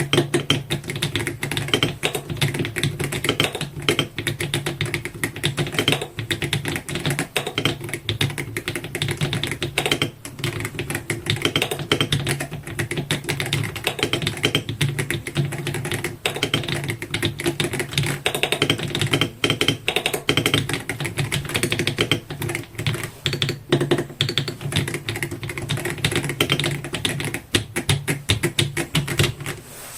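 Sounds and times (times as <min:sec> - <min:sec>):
fast typing on mechanical keyboard: 0:00.0 - 0:29.6.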